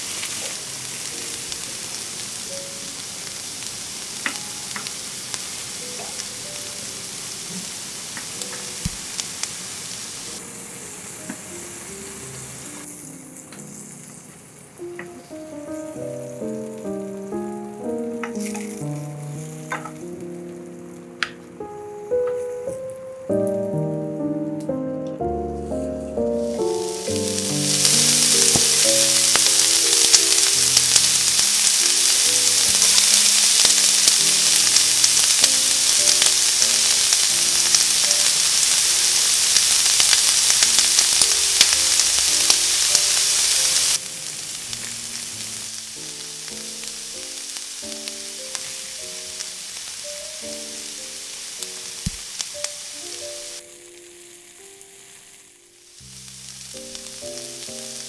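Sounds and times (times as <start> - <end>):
shrimp sizzling in a frying pan: 0.0 - 58.0.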